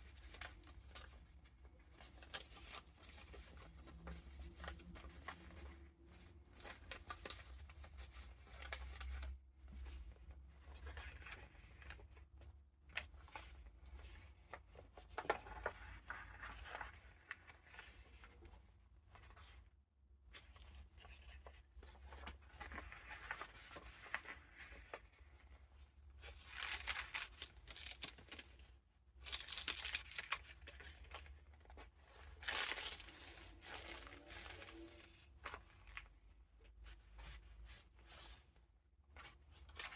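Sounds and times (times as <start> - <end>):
paper pages rustling: 0.0 - 19.6, 20.3 - 38.5.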